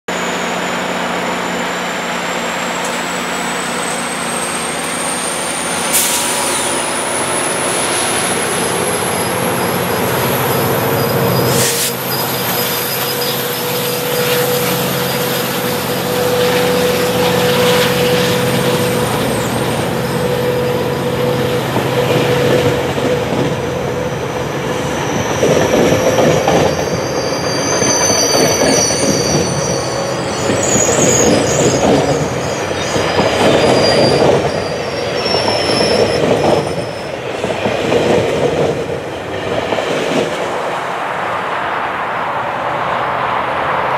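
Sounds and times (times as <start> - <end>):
high-pitched wheel squeal: 0.2 - 37.9.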